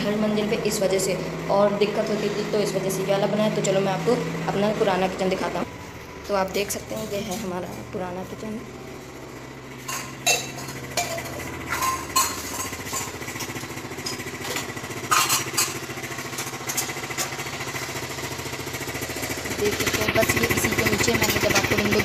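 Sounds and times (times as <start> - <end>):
machine running with fast pulse: 0.0 - 22.0.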